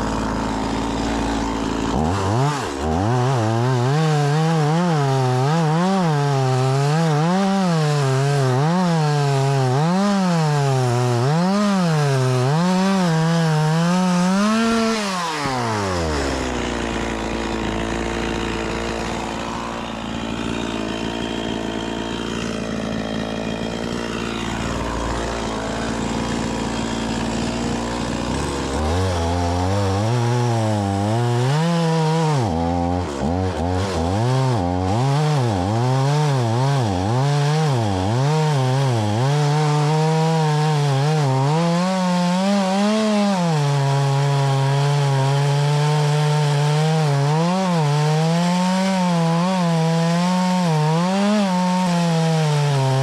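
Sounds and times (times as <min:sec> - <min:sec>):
chainsaw cutting wood: 0:00.0 - 0:53.0
chainsaw idling: 0:00.0 - 0:53.0.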